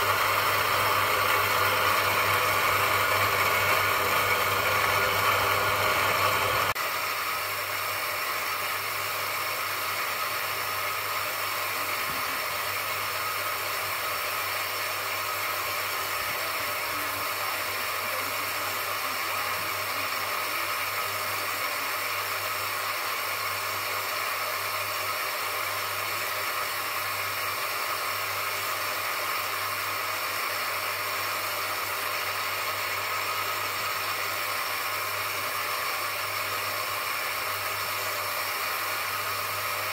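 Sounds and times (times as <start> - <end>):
bench grinder motor humming: 0.0 - 39.9.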